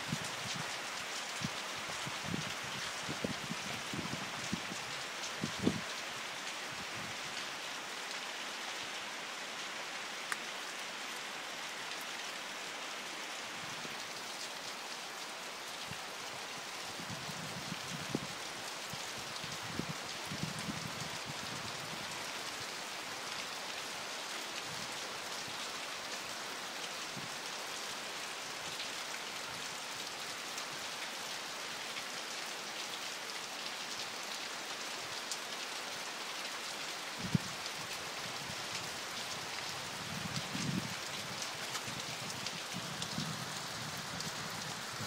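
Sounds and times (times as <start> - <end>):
rain falling on river: 0.0 - 45.0.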